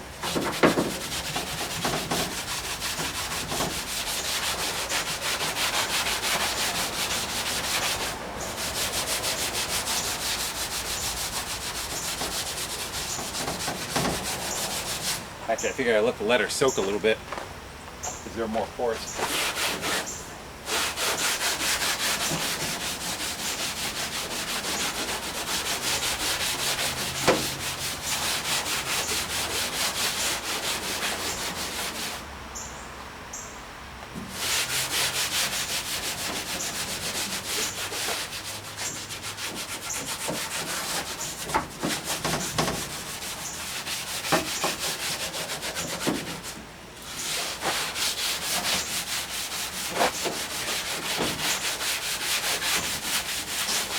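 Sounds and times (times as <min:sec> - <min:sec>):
scrubbing pad on painted metal: 0:00.0 - 0:17.2, 0:18.0 - 0:32.3, 0:34.2 - 0:53.9.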